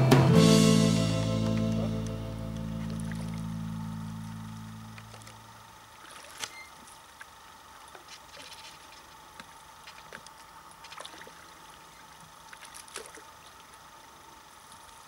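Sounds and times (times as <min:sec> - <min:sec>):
oars splashing and dripping: 0:01.5 - 0:15.0.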